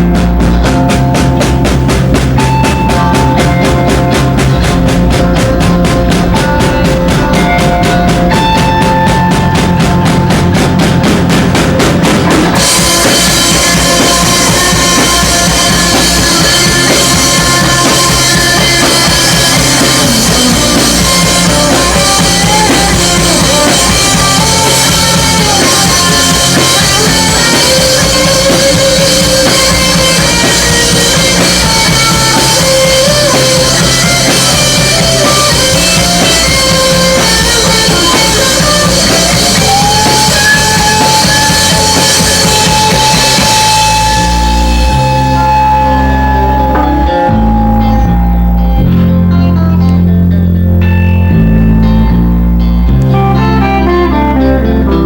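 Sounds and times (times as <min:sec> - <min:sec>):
drum kit kick and snare: 0:00.0 - 0:49.2
bass: 0:00.0 - 0:55.0
wavering melodic lead line: 0:00.0 - 0:55.0.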